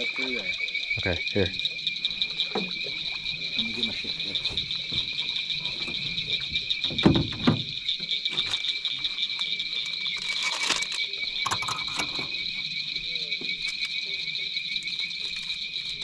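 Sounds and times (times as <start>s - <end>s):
night insects and frogs chorus: 0.0s - 16.0s.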